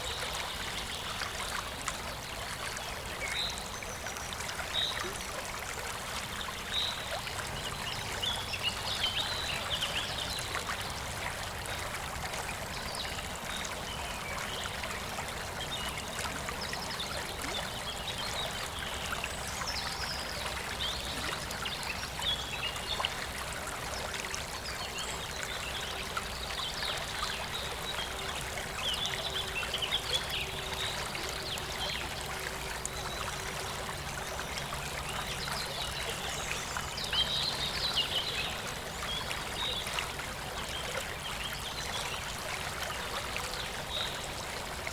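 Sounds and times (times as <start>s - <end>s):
stream flowing and gurgling: 0.0s - 44.9s
water trickling over stones: 0.0s - 44.9s.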